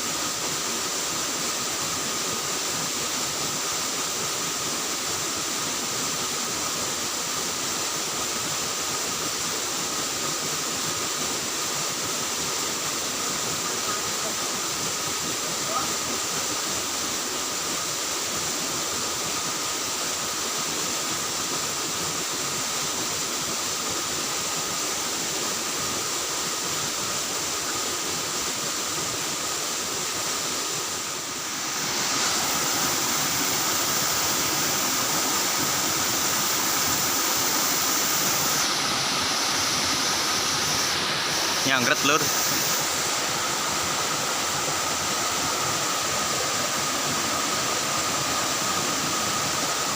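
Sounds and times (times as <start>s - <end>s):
flowing water rushing: 0.0s - 49.9s.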